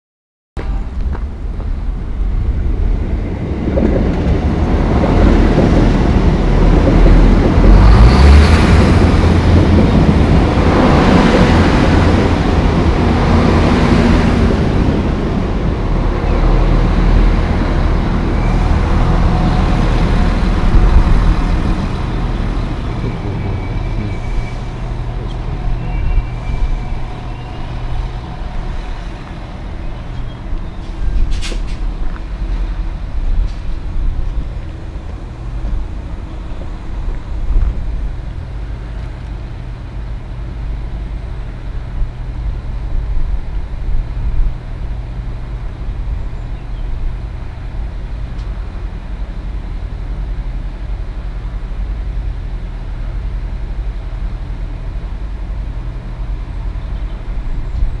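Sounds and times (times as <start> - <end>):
train engines running: 0.6 - 58.0
train wheels on rails: 0.6 - 58.0.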